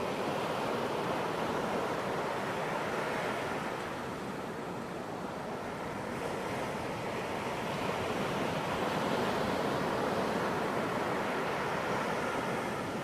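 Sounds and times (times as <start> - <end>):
ocean waves washing onto beach: 0.0 - 13.0.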